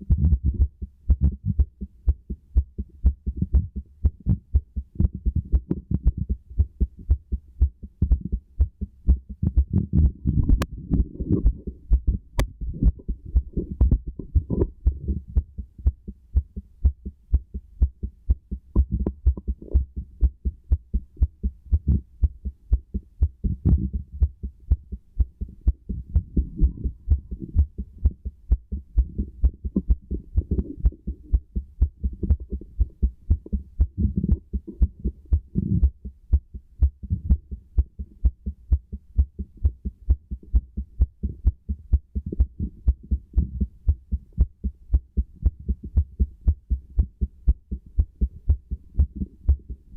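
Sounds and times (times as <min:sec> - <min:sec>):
heartbeat through stethoscope: 0:00.0 - 0:49.9.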